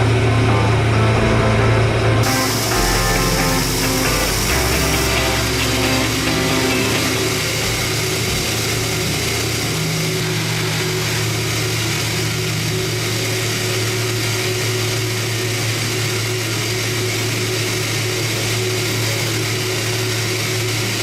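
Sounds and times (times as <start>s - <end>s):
low hum: 0.0s - 18.2s
machine whir: 0.0s - 21.0s.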